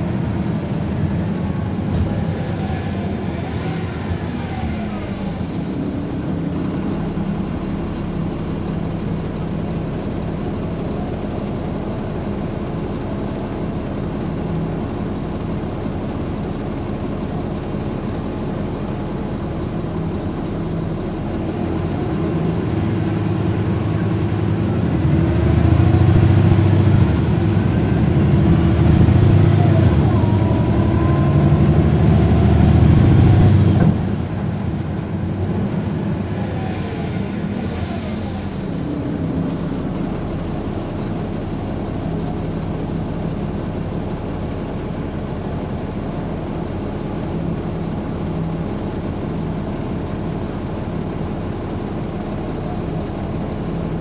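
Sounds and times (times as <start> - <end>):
engine whine climbing in pitch: 0.0 - 46.8
bus diesel engine running: 0.0 - 54.0.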